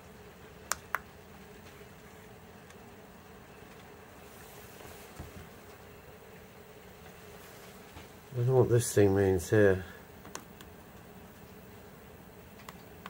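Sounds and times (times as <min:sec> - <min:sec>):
air heater buzzing hum: 0:00.0 - 0:13.0.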